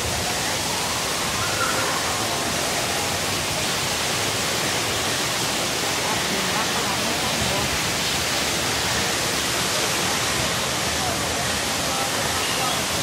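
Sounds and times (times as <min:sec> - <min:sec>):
faint voices: 0:00.0 - 0:13.0
steady rush of noise: 0:00.0 - 0:13.0.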